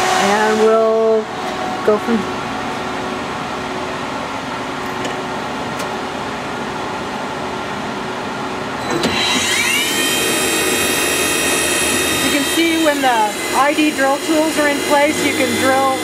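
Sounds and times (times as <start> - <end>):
spindle whine rising in pitch: 0.0 - 7.4, 9.2 - 16.0
machine hum: 0.0 - 16.0.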